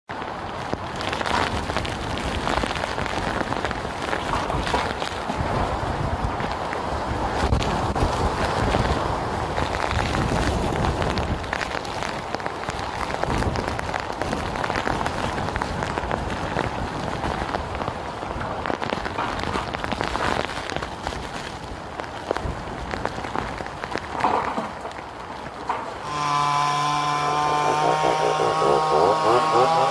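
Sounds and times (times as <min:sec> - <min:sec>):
heavy rain beating down: 0:00.1 - 0:29.9.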